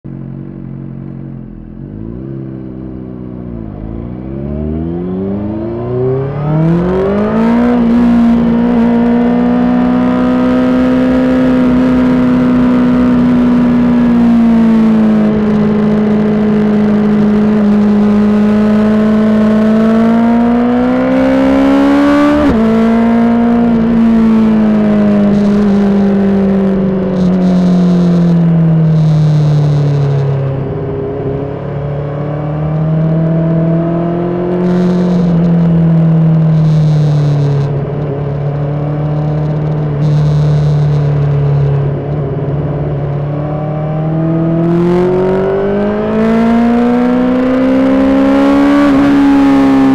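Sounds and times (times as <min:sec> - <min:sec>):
motorcycle engine revving: 0:00.1 - 0:49.9.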